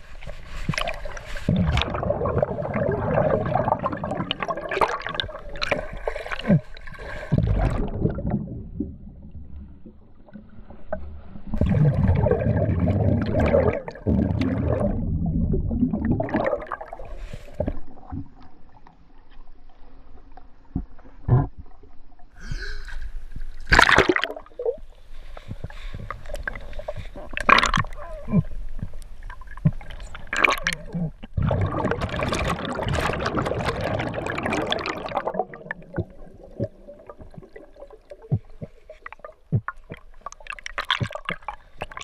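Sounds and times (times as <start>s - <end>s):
underwater rushing and bubbles: 0.0s - 22.4s, 23.1s - 42.0s.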